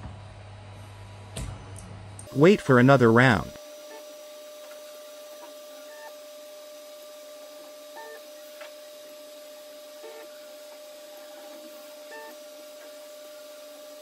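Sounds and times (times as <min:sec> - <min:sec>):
printer hum: 0:02.1 - 0:14.0
stepper motor tones: 0:02.1 - 0:14.0.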